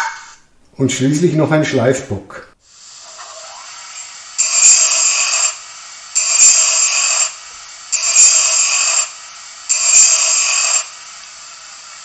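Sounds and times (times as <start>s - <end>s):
faint hiss: 2.3s - 12.0s.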